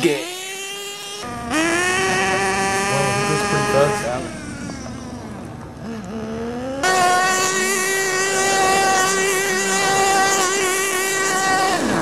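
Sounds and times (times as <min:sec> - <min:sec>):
electric motor high-pitched whine: 0:00.0 - 0:12.0.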